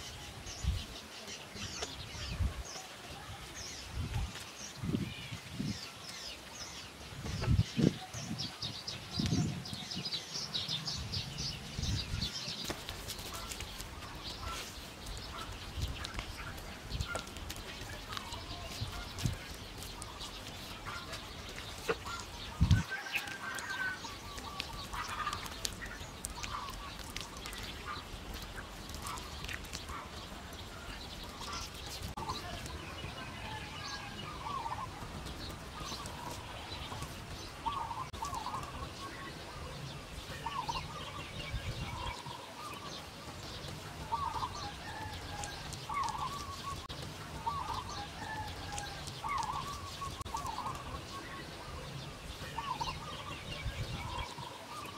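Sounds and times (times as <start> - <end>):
birds calling: 0.0 - 54.9.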